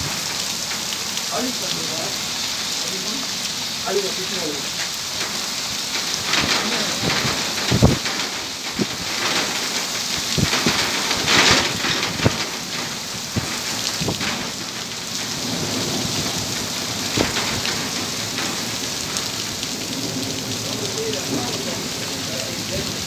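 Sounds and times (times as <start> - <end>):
heavy rain pouring: 0.0 - 23.0
raindrops striking close by: 0.0 - 23.0.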